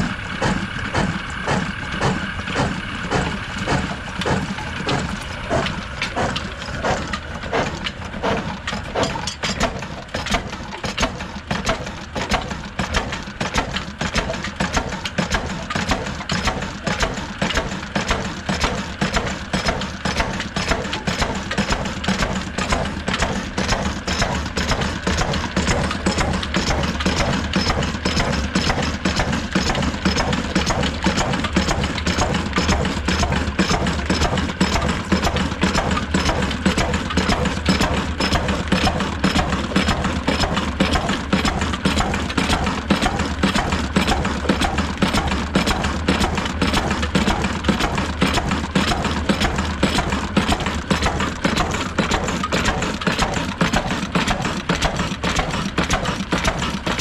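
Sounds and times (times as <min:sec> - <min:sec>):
stationary diesel engine running: 0:00.0 - 0:57.0.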